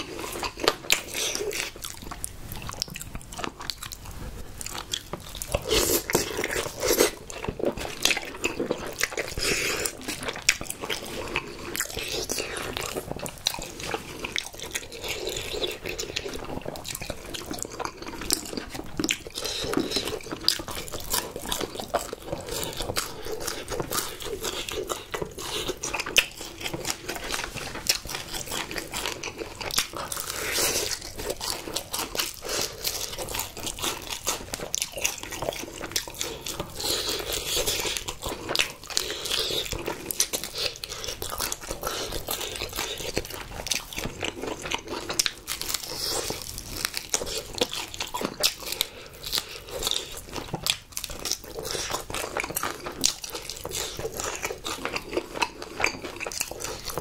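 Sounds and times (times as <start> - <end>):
chewing crunchy fried chicken: 0.0 - 57.0.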